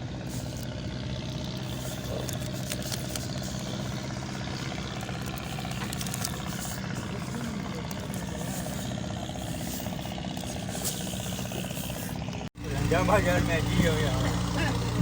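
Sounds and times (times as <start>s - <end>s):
boat engine droning: 0.0s - 15.0s
light rattles: 0.2s - 15.0s.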